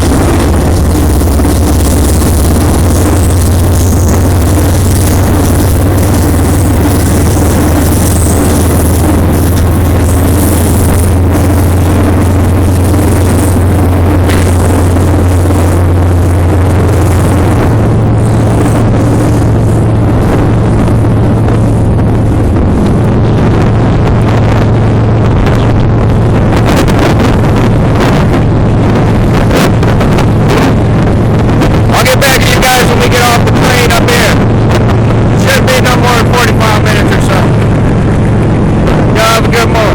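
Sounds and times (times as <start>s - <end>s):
freight train running: 0.0s - 39.9s
wind buffeting microphone: 0.0s - 39.9s.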